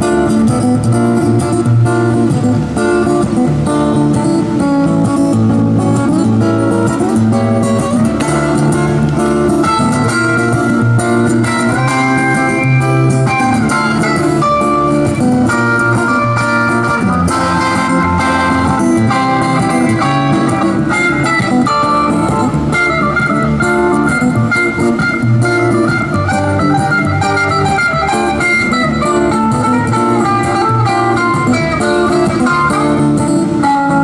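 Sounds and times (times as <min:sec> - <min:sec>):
electric guitar picked melody: 0:00.0 - 0:34.0.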